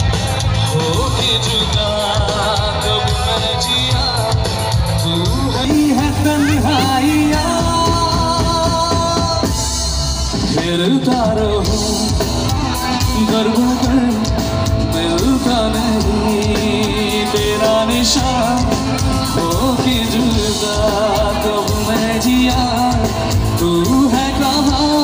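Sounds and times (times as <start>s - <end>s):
live band playing: 0.0s - 25.0s
person singing: 0.0s - 25.0s.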